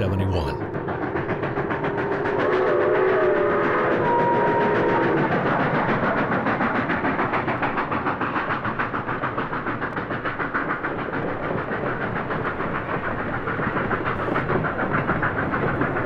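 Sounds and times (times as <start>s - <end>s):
steam locomotive exhaust beats: 0.0s - 16.0s.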